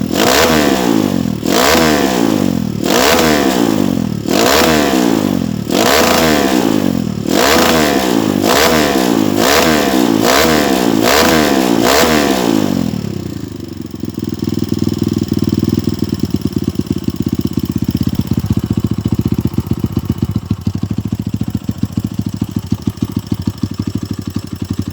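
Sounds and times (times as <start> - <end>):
dirt bike engine idling: 0.0 - 24.9
dirt bike engine revving: 0.0 - 24.9.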